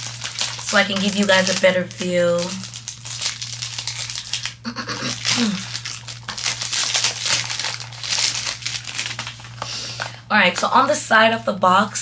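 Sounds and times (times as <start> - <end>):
packaging rustling: 0.0 - 10.2.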